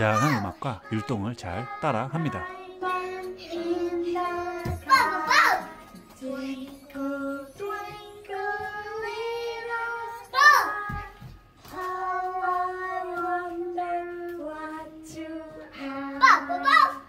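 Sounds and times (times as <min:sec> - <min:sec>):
children's song: 0:00.0 - 0:17.0
girl singing: 0:00.0 - 0:17.0.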